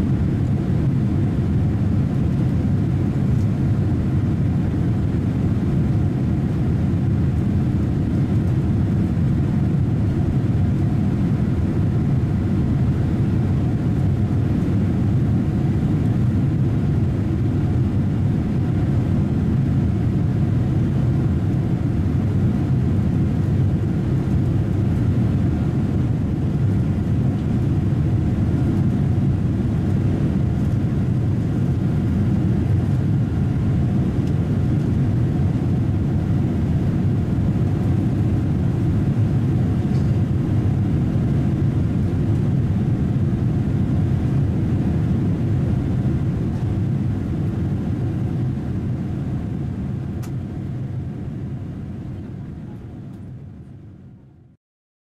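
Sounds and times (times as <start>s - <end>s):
airliner cabin engine rumble: 0.0s - 54.6s.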